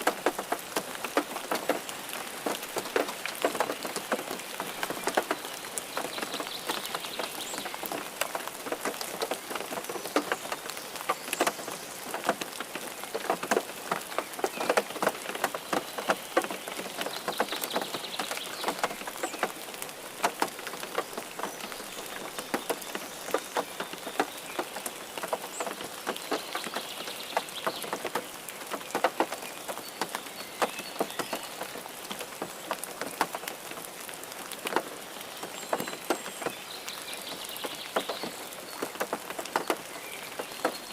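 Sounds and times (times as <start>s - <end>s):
rain drops hitting a surface: 0.0s - 40.9s.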